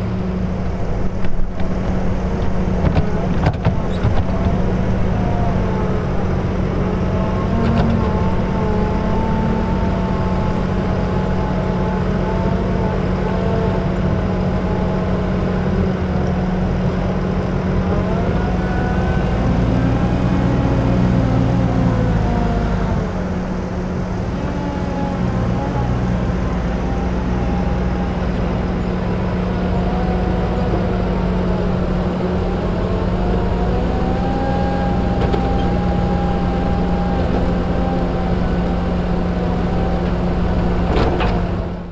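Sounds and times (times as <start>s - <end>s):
diesel engine whining under load: 0.0s - 41.9s.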